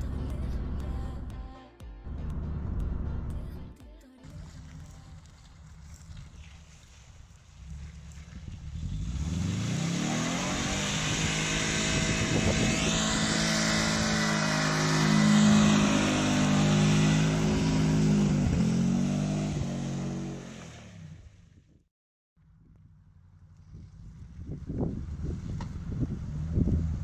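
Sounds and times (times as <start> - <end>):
car engine revving: 0.0 - 1.3, 2.1 - 3.6, 4.4 - 21.4, 22.5 - 27.0.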